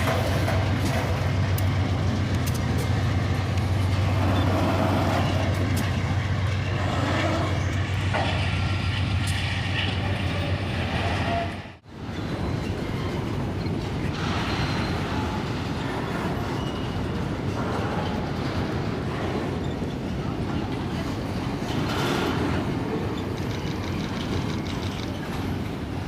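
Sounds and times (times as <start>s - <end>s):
locomotive drone: 0.0s - 26.0s
rumble of rolling wagons: 0.0s - 26.0s.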